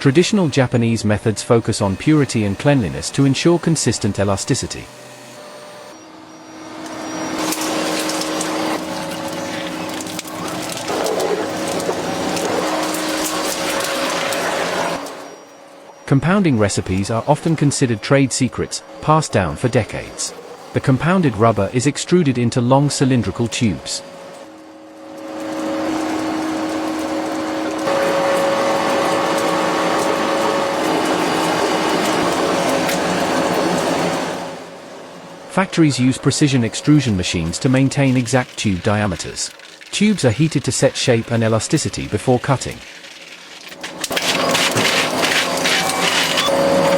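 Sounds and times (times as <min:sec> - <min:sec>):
factory machinery humming and clicking: 0:00.0 - 0:46.9.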